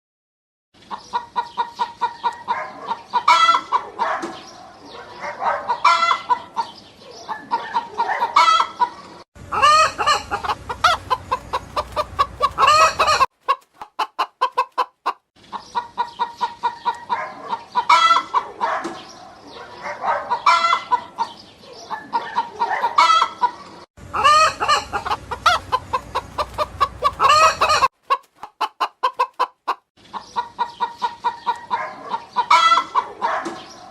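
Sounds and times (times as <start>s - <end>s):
chickens clucking: 0.8s - 33.9s
chickens squawking: 0.8s - 33.9s.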